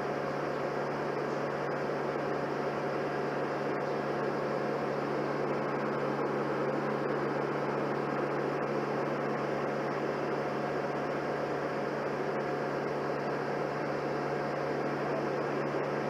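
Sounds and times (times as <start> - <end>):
tractor engine low hum: 0.0 - 16.0.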